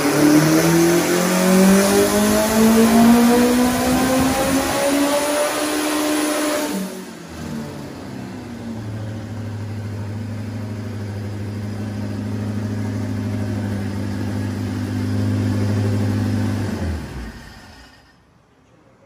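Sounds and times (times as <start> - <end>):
car engine running under load: 0.0 - 18.2.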